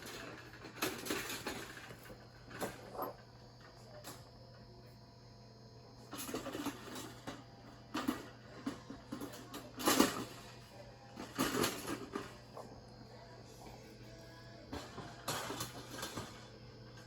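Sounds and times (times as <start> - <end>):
objects clattering and knocking: 0.0 - 4.2, 6.0 - 13.3, 14.6 - 17.0.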